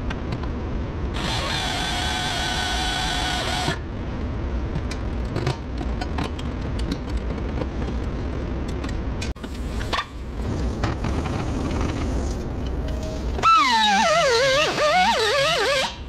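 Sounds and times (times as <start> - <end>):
low workshop rumble: 0.0 - 16.0.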